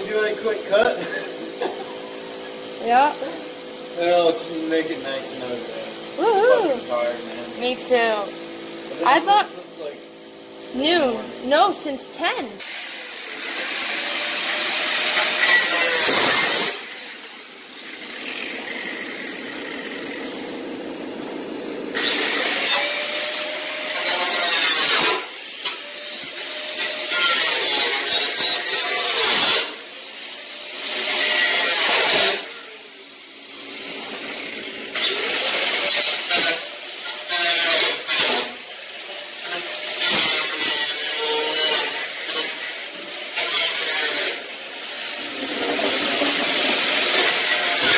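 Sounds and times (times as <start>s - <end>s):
power tool cutting metal: 0.0s - 47.9s.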